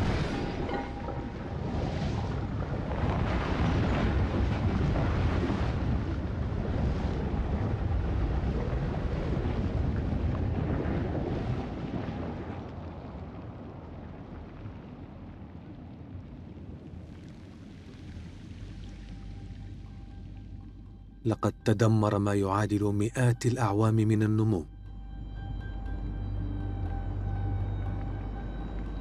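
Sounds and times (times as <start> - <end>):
low rumbling noise: 0.0 - 29.0.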